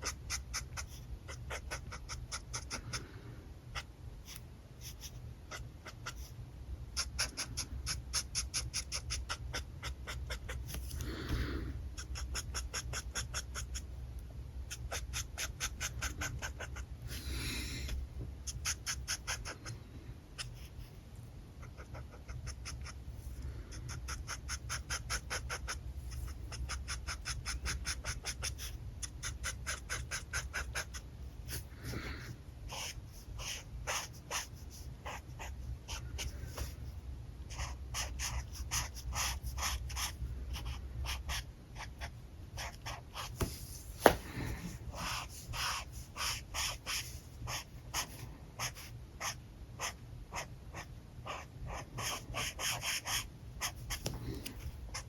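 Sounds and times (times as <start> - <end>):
marker nib scratching on paper: 0.0 - 3.0, 3.7 - 11.1, 12.0 - 14.0, 14.7 - 19.8, 20.4 - 20.9, 21.6 - 32.0, 32.7 - 36.8, 37.5 - 55.0.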